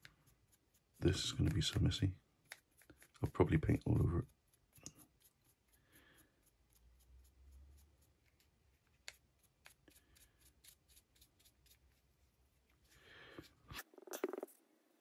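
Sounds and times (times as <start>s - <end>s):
paintbrush scratching: 0.0s - 14.6s.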